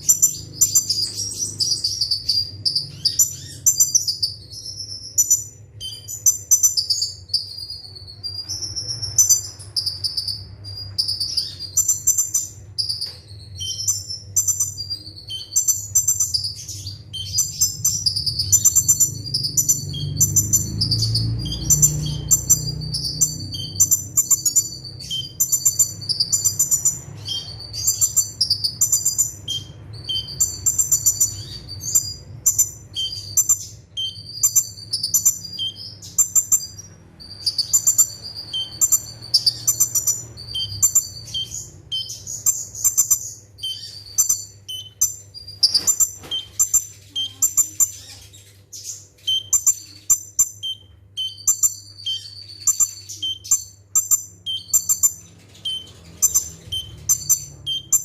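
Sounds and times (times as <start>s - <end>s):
bird singing high thin chirps: 0.0s - 58.0s
faint low hum: 0.0s - 58.0s.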